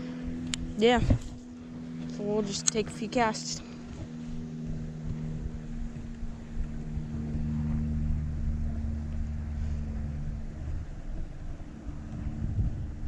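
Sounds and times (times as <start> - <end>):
distant engine droning: 0.0 - 13.0.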